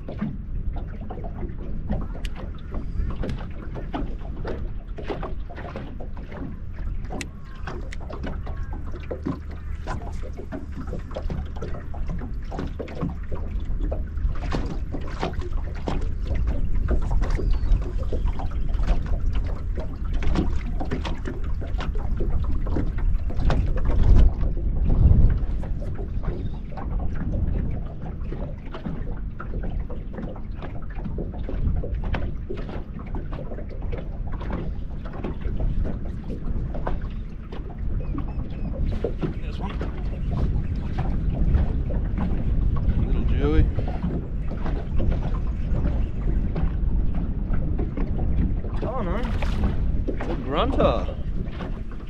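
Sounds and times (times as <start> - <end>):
boat motor humming: 0.0 - 52.0
water slapping against hull: 0.0 - 52.0.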